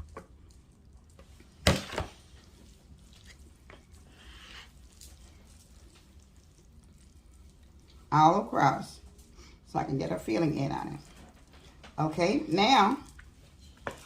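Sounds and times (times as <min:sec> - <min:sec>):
faint scraping and shuffling: 0:00.4 - 0:14.0.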